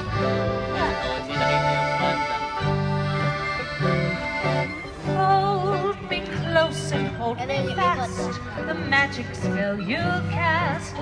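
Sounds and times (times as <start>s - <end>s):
accordion playing chords and melody: 0.0s - 11.0s.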